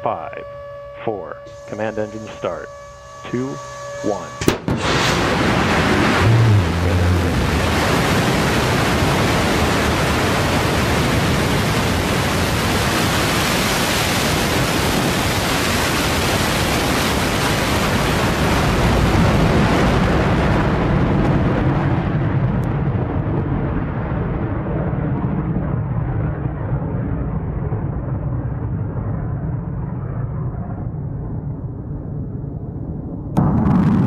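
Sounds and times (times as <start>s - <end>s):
rocket engine roaring: 0.0s - 34.0s.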